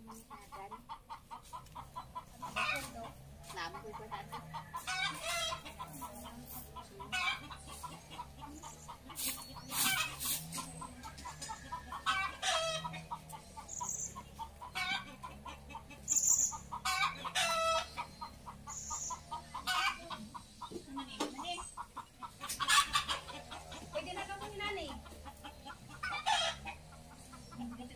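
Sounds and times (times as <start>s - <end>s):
chickens clucking: 0.0s - 27.9s.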